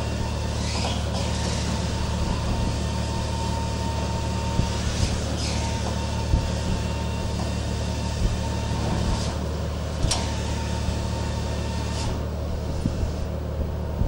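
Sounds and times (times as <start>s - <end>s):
ship machinery drone: 0.0s - 14.0s.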